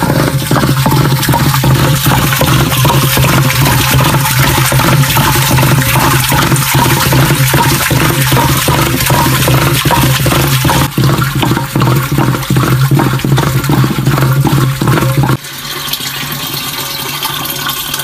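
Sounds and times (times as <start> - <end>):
churning stick sloshing curd: 0.0 - 16.5.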